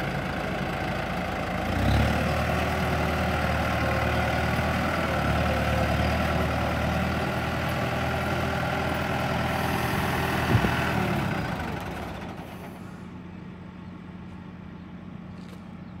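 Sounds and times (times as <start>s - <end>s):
diesel tractor engine idling: 0.0s - 16.0s.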